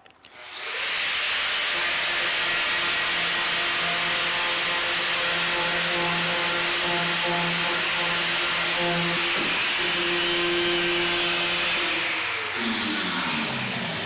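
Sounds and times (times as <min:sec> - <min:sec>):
angle grinder sanding: 0:00.2 - 0:14.0.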